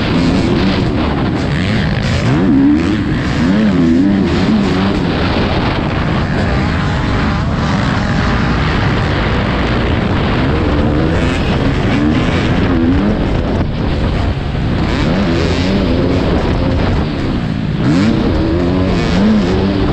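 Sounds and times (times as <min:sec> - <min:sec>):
motocross bike engine revving: 0:00.0 - 0:19.9
wind noise: 0:00.0 - 0:19.9.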